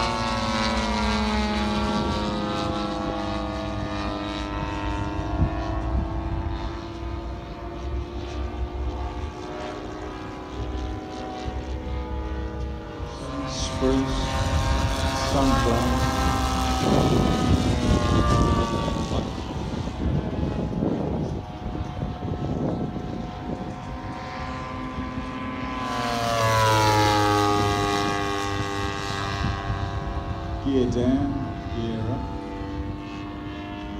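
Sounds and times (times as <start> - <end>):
model plane engine and propeller: 0.0 - 33.9.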